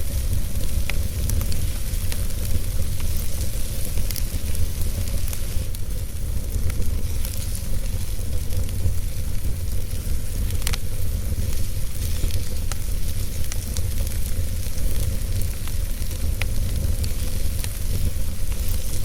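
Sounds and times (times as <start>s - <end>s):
fire crackles and pops: 0.0s - 19.0s
fire rumble and hiss: 0.0s - 19.0s.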